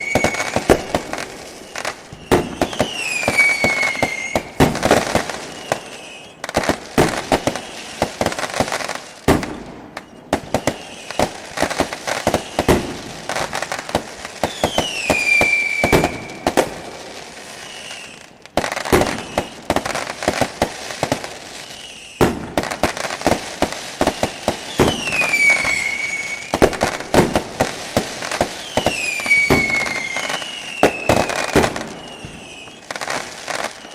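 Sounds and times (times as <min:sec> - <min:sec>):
falling firework whistle: 0:00.0 - 0:33.9
fireworks popping and crackling: 0:00.0 - 0:33.9.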